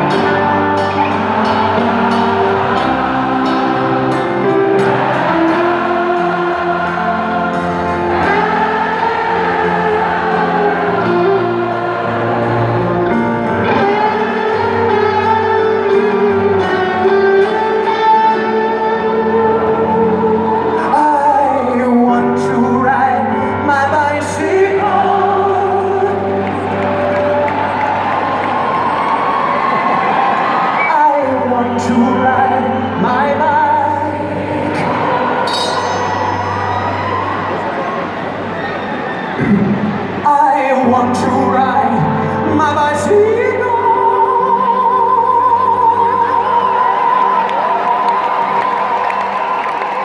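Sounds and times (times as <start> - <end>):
live rock concert music: 0.0 - 50.0
singing in layered harmony: 0.0 - 50.0.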